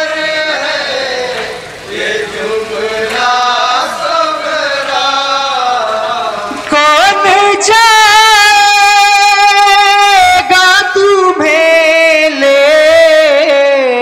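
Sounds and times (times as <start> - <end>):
man singing a lament: 0.0 - 14.0.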